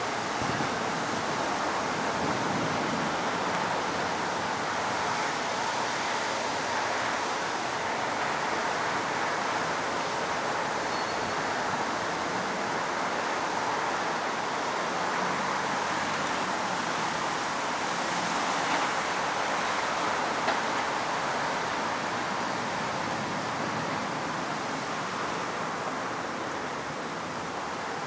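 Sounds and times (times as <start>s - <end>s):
heavy rain: 0.0s - 28.0s
wind: 0.0s - 28.0s.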